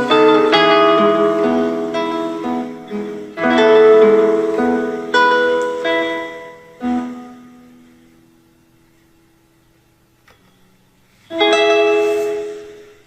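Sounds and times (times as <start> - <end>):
fingerstyle acoustic guitar: 0.0 - 8.2, 10.4 - 13.0.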